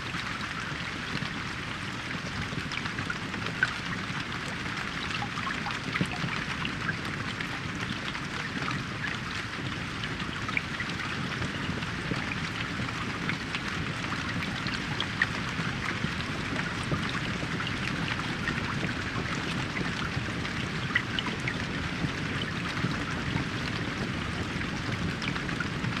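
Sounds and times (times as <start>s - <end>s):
raindrops ticking: 0.1s - 24.0s.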